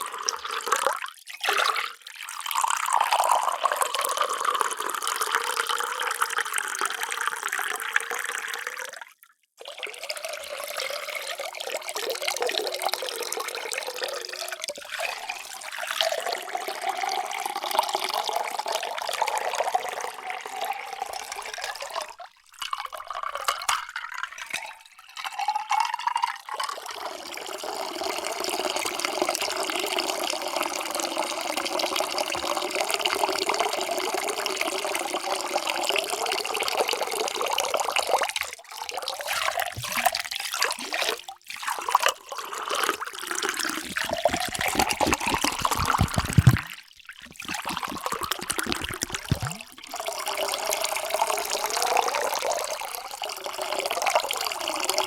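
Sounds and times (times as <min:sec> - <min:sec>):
water pouring into a container: 0:00.0 - 0:55.0.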